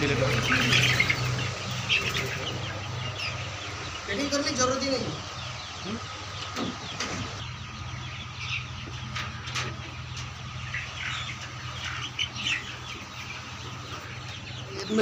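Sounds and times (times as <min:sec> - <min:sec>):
chicks peeping and chirping: 0:00.0 - 0:15.0.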